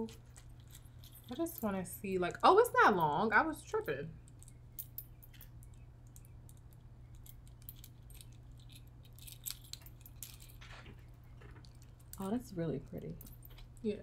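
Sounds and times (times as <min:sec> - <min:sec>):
metal chain clinking: 0:00.0 - 0:01.9, 0:03.8 - 0:14.0
steady low hum: 0:00.0 - 0:14.0.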